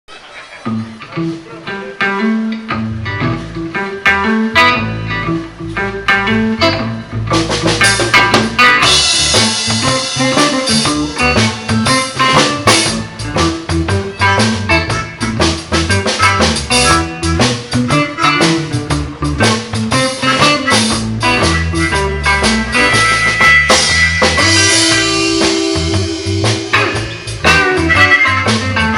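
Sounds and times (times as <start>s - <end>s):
guitar and bass blues groove: 0.6s - 28.9s
drum kit with cymbals: 2.6s - 28.9s.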